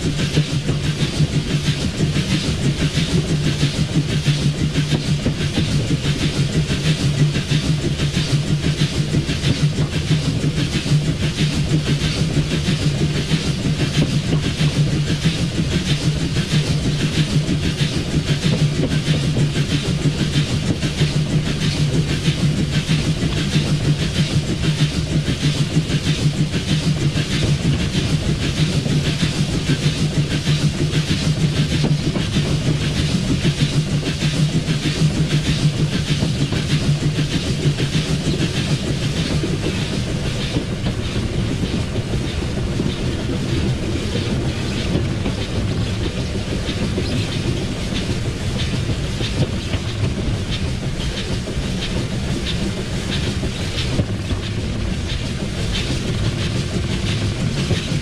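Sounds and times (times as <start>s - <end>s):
steam locomotive rumble and rattle: 0.0s - 58.0s.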